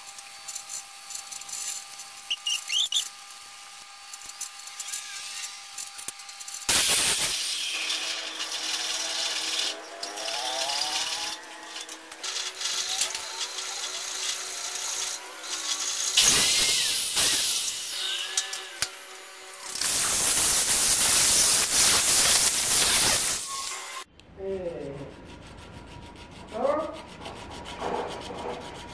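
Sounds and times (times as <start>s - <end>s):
angle grinder grinding steel: 0.0s - 24.1s.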